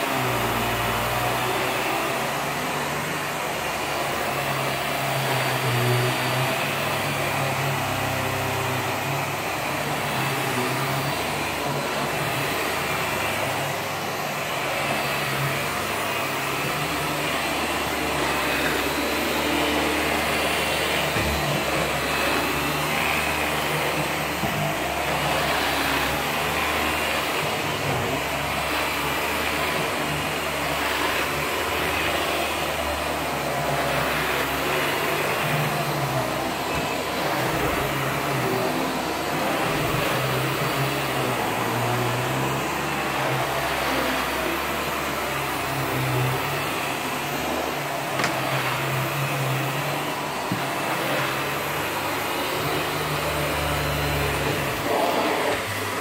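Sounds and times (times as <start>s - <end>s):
vacuum cleaner on carpet: 0.0s - 56.0s.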